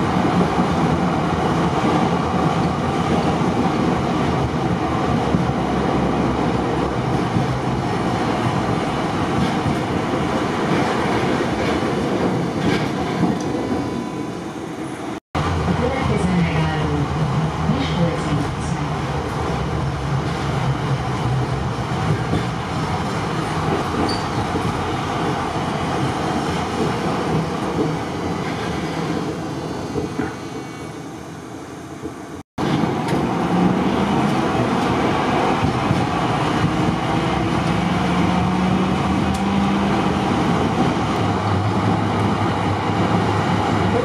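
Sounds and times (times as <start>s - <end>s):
tram wheels and motors rumbling: 0.0s - 44.0s.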